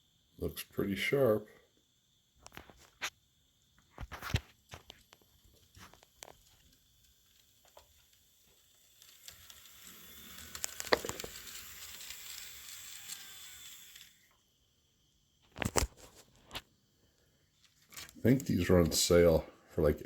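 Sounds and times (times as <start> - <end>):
model train wheels and motor rattling: 0.0 - 16.7, 17.6 - 20.0.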